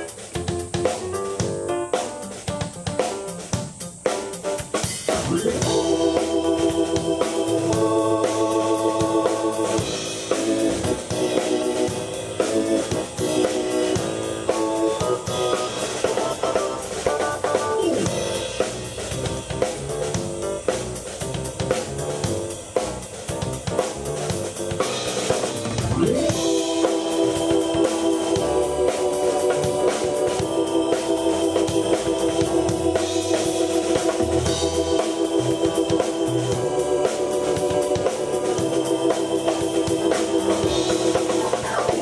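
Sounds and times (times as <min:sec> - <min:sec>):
drum kit beat: 0:00.0 - 0:42.0
keyboard playing chords: 0:00.0 - 0:42.0.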